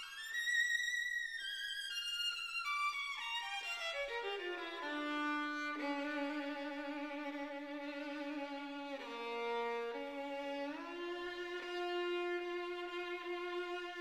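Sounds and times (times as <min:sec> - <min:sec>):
violin playing slow melody: 0:00.0 - 0:14.0.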